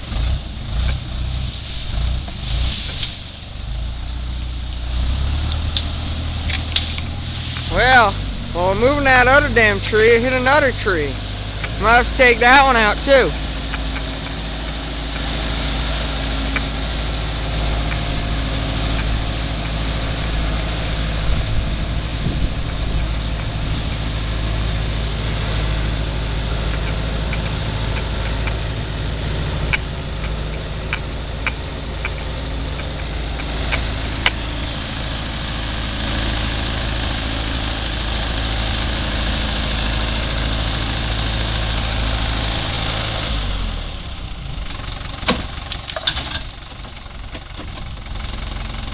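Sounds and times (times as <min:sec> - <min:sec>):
backhoe engine running: 0:00.0 - 0:48.9.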